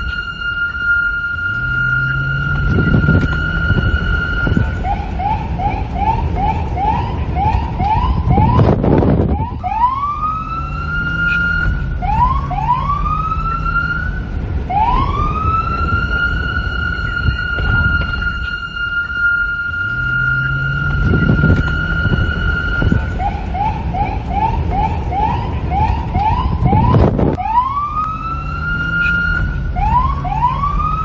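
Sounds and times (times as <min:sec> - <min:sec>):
low rumble: 0:00.0 - 0:28.2
police siren: 0:00.0 - 0:31.0.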